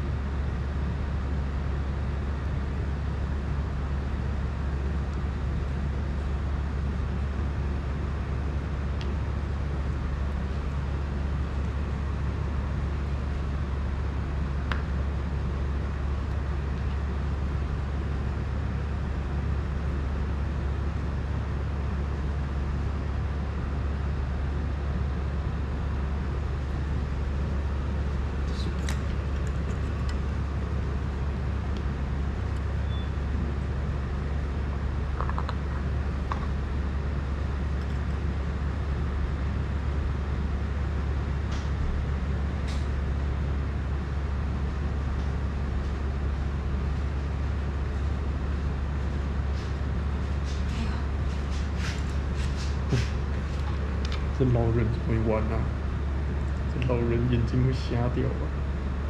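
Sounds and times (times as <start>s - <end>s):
low droning hum: 0.0s - 59.0s.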